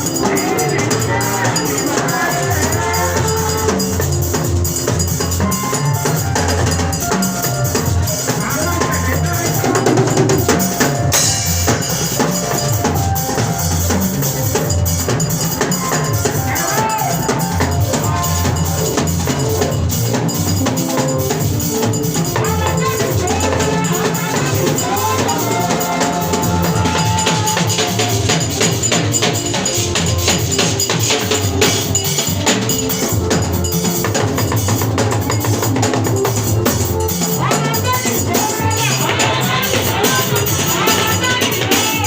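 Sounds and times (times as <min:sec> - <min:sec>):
melody line: 0:00.0 - 0:37.6
drum kit and percussion beat: 0:00.0 - 0:42.0.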